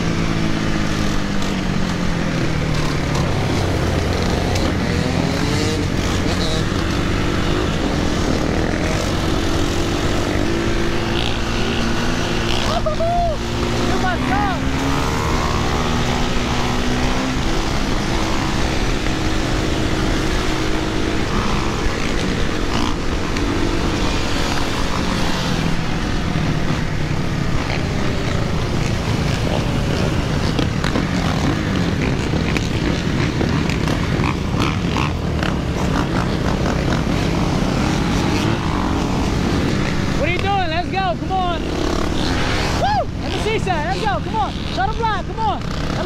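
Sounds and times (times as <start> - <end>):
dirt bike and quad engines revving: 0.0 - 46.0.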